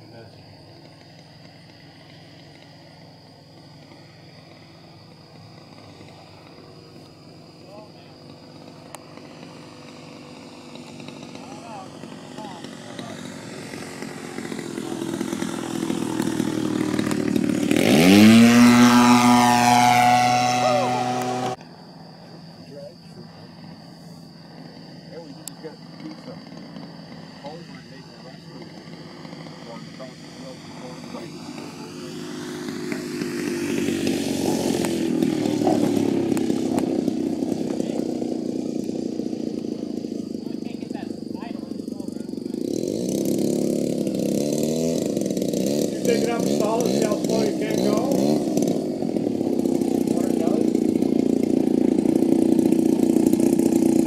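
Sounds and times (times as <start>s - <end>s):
model plane engine buzzing: 0.0s - 54.0s.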